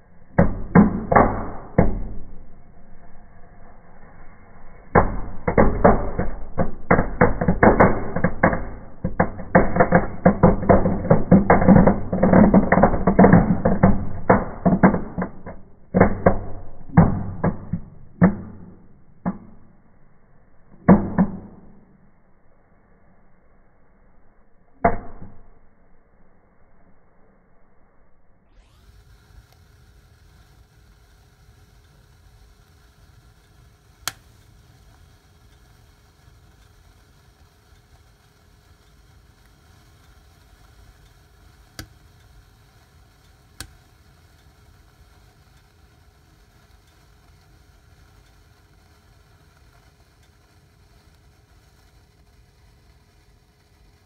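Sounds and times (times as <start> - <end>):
faint fire noise: 0.0 - 24.8, 25.4 - 54.0
fireworks popping and cracking: 0.4 - 19.9, 20.7 - 22.0, 28.6 - 54.0.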